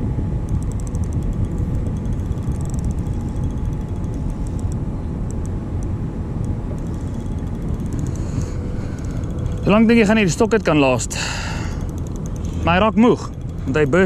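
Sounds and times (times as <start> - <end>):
outboard motor running: 0.0 - 14.0
wind and water rumble: 0.0 - 14.0
rapid light clicking: 0.4 - 14.0.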